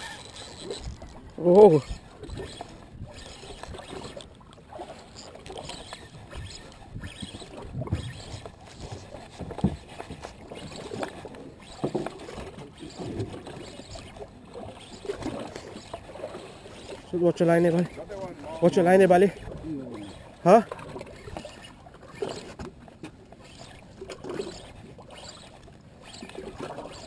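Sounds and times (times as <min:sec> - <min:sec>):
water lapping against boat hull: 0:00.0 - 0:27.0.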